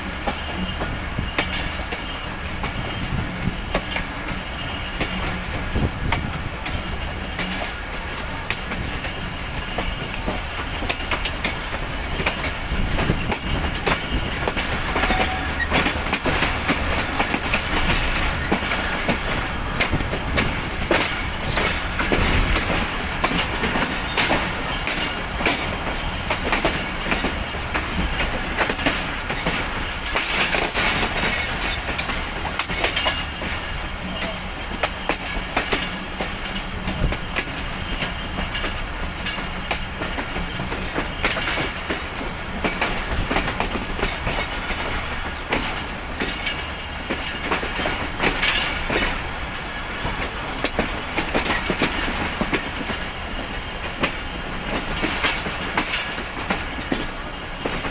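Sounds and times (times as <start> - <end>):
train wheels rumbling: 0.0 - 57.9
wheels clacking on rail joints: 0.0 - 57.9.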